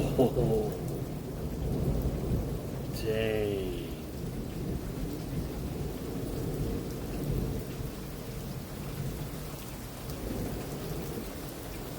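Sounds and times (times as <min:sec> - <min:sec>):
rolling thunder rumbling: 0:00.0 - 0:11.9.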